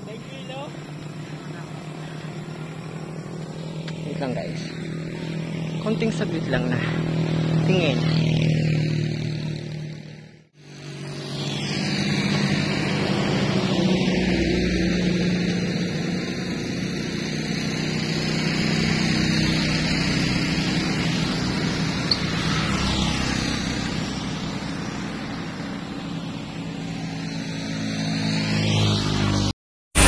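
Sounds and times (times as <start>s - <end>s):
car engine hum: 0.0s - 30.0s
road and wind noise: 0.0s - 30.0s.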